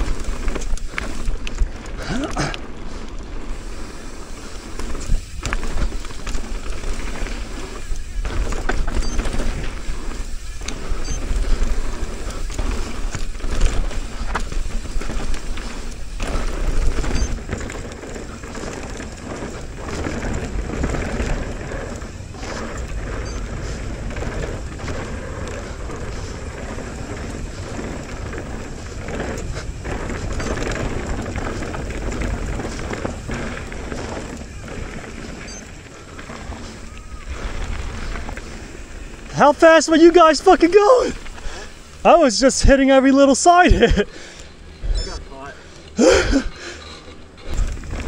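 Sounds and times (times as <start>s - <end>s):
bike rattling and knocking: 0.0s - 48.0s
bike tyres skidding on dirt: 0.0s - 48.0s.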